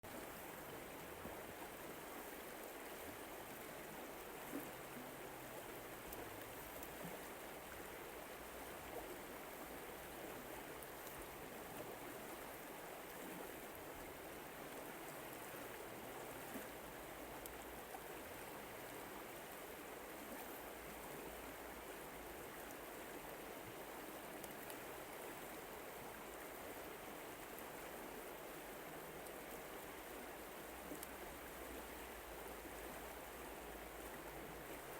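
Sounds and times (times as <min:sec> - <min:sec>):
small ticks of water: 0:00.0 - 0:34.9
river water flowing: 0:00.1 - 0:34.9.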